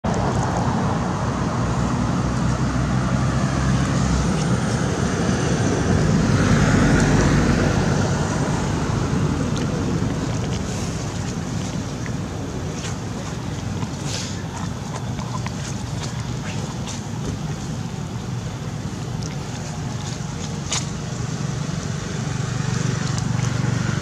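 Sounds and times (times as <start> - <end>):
outdoor rumble and hiss: 0.0 - 24.0.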